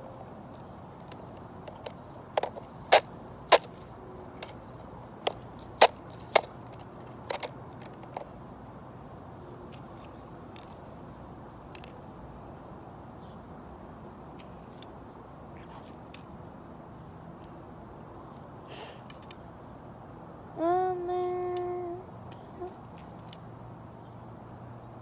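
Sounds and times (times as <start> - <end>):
steady background noise: 0.0 - 25.0.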